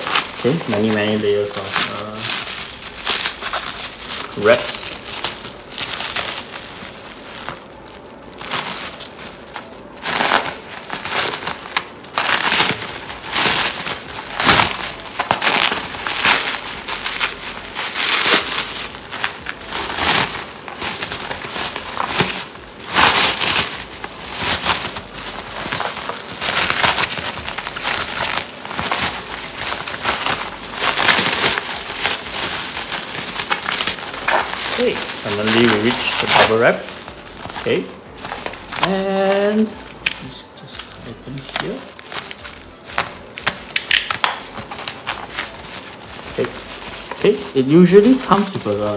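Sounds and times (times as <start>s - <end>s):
plastic wrap crinkling: 0.0s - 48.9s.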